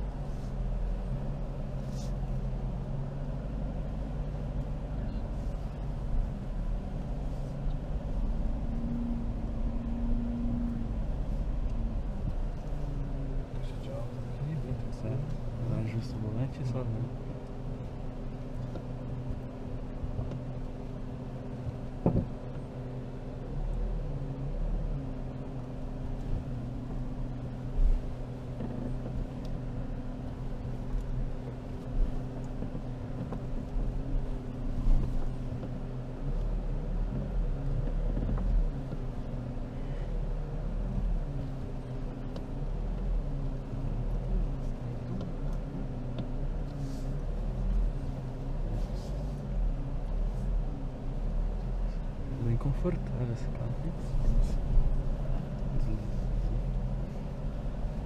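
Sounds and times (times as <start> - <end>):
diesel engine running at low revs: 0.0 - 58.0.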